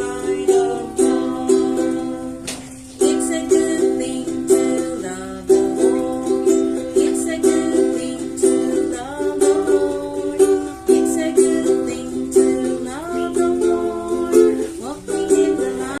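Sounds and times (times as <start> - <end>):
sliding melody line: 0.0 - 16.0
ukulele strumming chords: 0.0 - 16.0.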